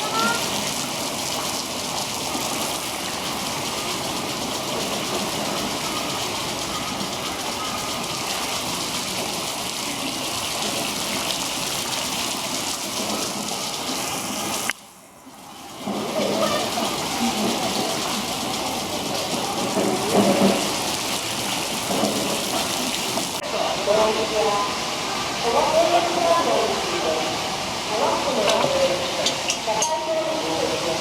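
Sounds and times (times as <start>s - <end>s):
water rushing and splashing: 0.0s - 31.0s.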